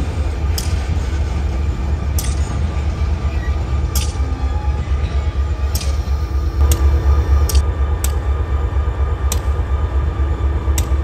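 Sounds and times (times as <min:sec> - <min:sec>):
diesel locomotive rumbling past: 0:00.0 - 0:11.0.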